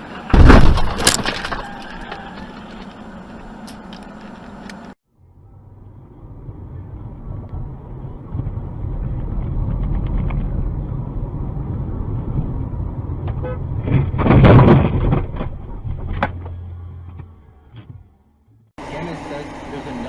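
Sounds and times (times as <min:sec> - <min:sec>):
road noise: 0:00.0 - 0:20.0
car engine while driving: 0:02.1 - 0:20.0.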